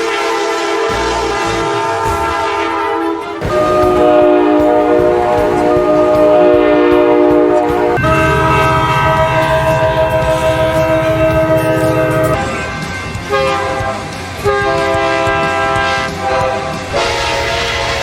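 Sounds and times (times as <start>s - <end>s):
locomotive air horn: 0.0s - 18.0s
train rumble: 0.0s - 18.0s.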